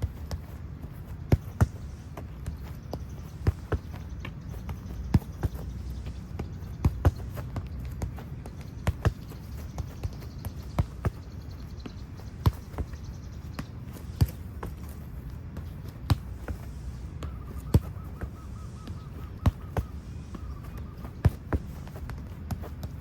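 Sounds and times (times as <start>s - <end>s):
foot kicking football: 0.0s - 23.0s.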